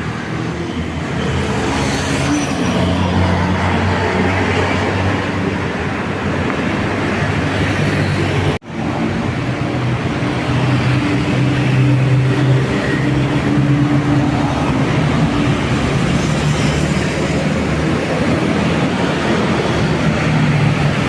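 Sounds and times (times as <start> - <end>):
bus diesel engine humming: 2.8 - 21.0.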